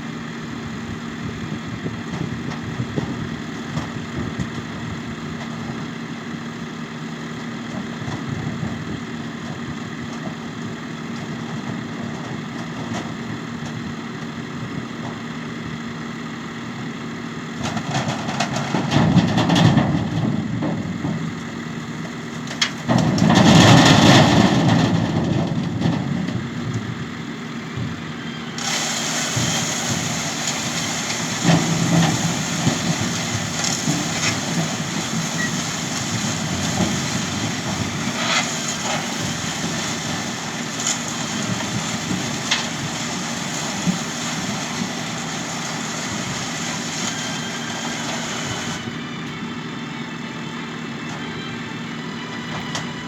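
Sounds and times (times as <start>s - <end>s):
tractor engines and harvesting machinery: 0.0s - 53.0s.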